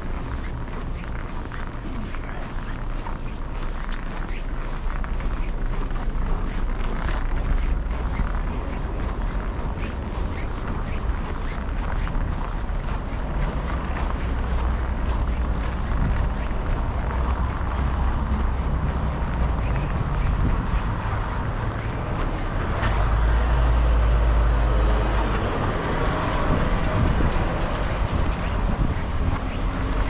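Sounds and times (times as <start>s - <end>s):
traffic passing: 0.0s - 30.0s
wind rumble on microphone: 0.0s - 30.0s.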